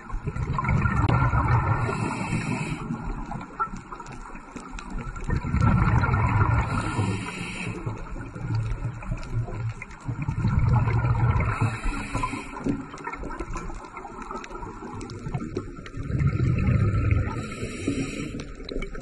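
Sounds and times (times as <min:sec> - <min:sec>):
underwater bubbles gurgling: 0:00.0 - 0:19.0.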